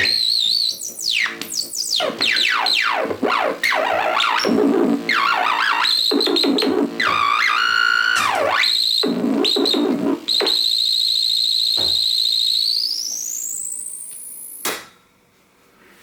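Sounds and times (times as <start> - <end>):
synthesizer pitch sweeps and tones: 0.0 - 14.5.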